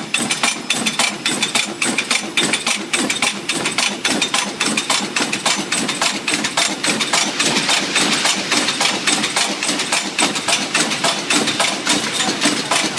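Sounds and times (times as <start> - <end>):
forging machine clattering: 0.0 - 12.9.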